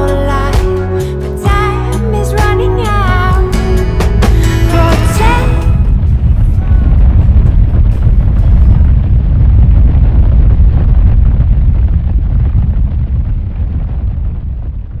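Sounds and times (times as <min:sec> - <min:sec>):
deep cinematic rumble: 0:00.0 - 0:15.0.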